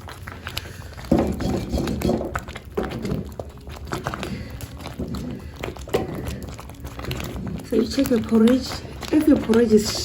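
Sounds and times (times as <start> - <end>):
porridge bubbling in pot: 0.0 - 10.0.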